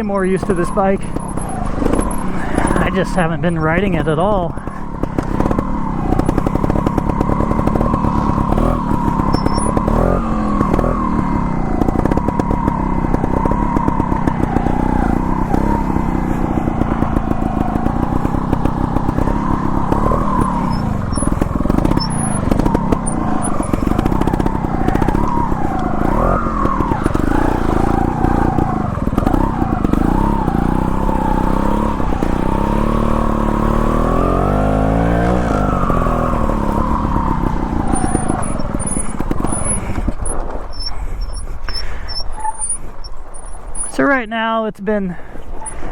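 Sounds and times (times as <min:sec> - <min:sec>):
two-stroke bike engine revving: 0:00.0 - 0:45.9.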